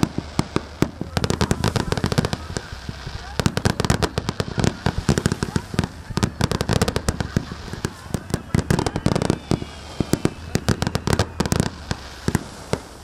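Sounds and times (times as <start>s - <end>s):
fireworks bursts and bangs: 0.0s - 13.0s
fireworks crackling: 0.0s - 13.0s.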